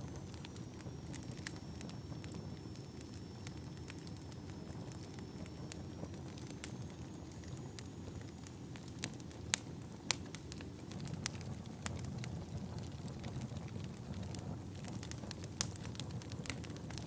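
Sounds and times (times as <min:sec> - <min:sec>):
low rumble of burning: 0:00.0 - 0:17.0
wood fire crackling and popping: 0:00.0 - 0:17.0.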